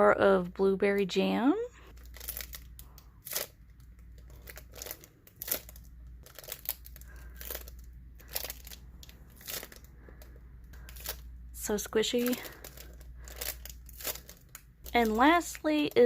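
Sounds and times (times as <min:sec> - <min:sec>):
low steady hum: 0:00.0 - 0:16.0
foam toy crinkling and clicking: 0:01.8 - 0:16.0.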